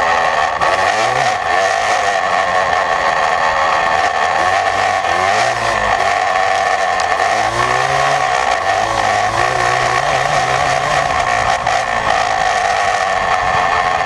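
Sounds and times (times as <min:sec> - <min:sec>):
heavy rushing noise: 0:00.0 - 0:14.0
two-stroke engine revving: 0:00.0 - 0:14.0.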